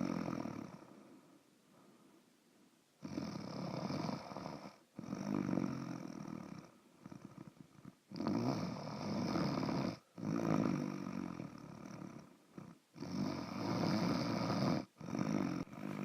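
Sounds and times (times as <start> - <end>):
rattling snoring: 0.0 - 0.9, 3.0 - 16.0.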